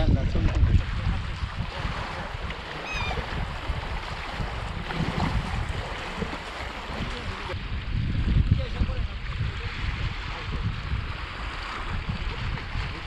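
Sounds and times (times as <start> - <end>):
small waves lapping on rocks: 0.0 - 13.0
wind buffeting microphone: 0.0 - 13.0.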